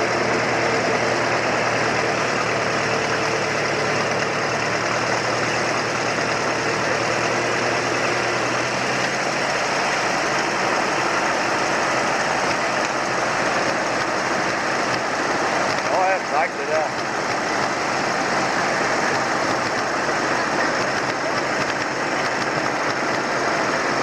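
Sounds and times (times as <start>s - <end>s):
tractor engines running: 0.0s - 24.0s.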